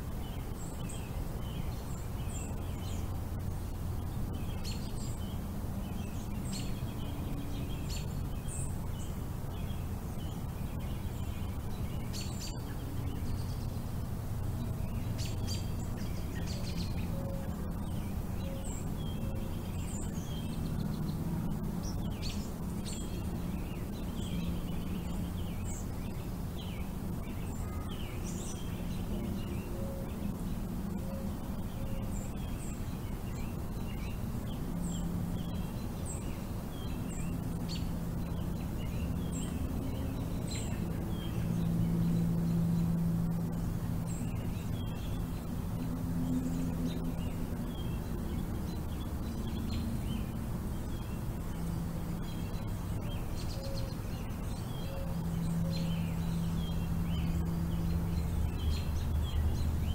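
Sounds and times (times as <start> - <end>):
songbirds chirping: 0.0 - 59.9
steady low hum: 0.0 - 59.9.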